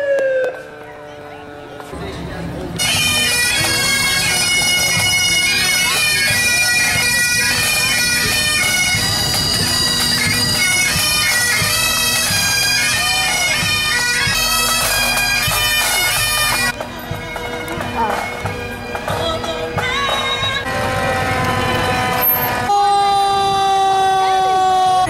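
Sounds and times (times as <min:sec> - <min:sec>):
bagpipe band playing a march: 0:00.5 - 0:25.0.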